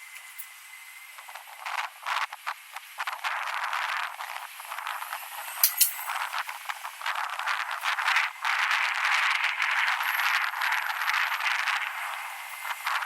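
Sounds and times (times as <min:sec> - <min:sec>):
wind rushing over microphone: 0:01.1 - 0:13.0.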